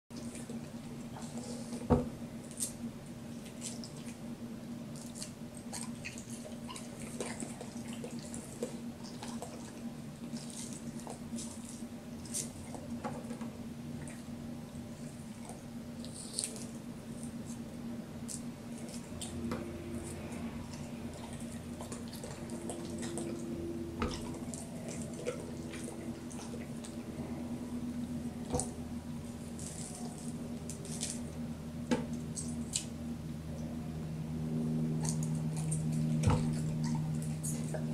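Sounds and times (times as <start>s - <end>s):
steady low hum: 0.1s - 37.9s
dog chewing wet food: 0.2s - 17.7s, 18.3s - 31.3s, 34.6s - 37.9s.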